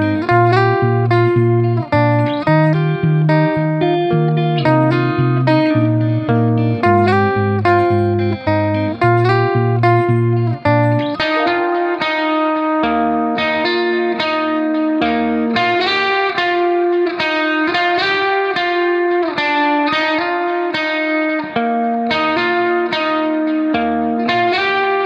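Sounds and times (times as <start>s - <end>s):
plucked guitar music: 0.0s - 25.0s.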